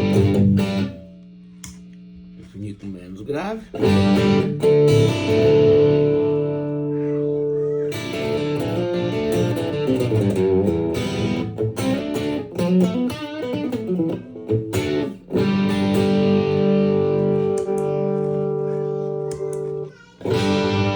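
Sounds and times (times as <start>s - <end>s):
electric guitar picked notes: 0.0s - 1.2s, 3.7s - 20.9s
electric guitar chord ringing: 0.0s - 1.3s, 3.7s - 20.9s.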